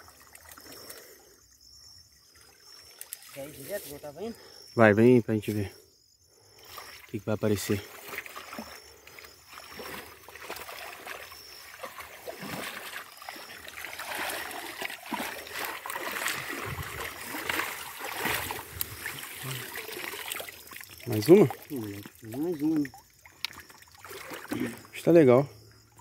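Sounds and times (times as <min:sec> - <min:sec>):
creek water splashing: 0:00.0 - 0:01.4, 0:02.3 - 0:04.5, 0:06.5 - 0:26.0.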